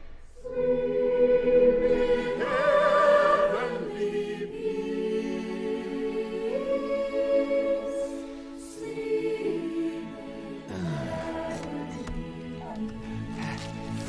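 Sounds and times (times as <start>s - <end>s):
choir singing a carol: 0.2s - 14.0s.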